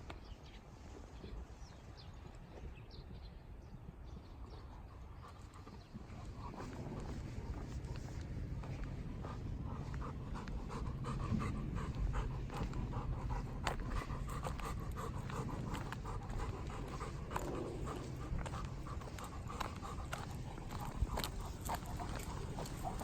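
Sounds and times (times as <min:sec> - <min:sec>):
dog panting: 0:04.4 - 0:23.0.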